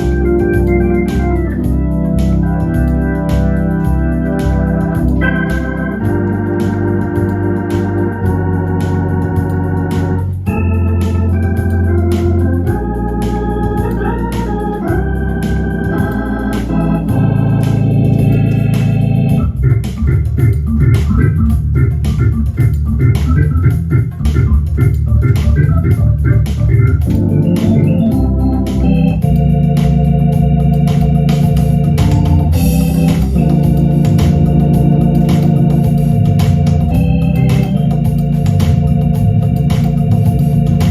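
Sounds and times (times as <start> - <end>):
built-in rhythm beat: 0.0 - 40.9
electronic organ music: 0.0 - 40.9.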